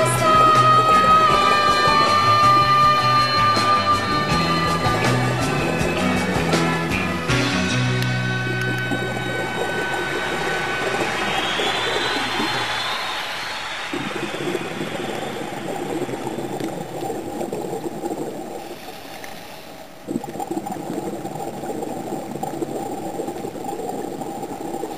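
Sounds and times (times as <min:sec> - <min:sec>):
air bubbles gurgling underwater: 0:00.0 - 0:12.9, 0:13.9 - 0:18.8, 0:20.0 - 0:24.9.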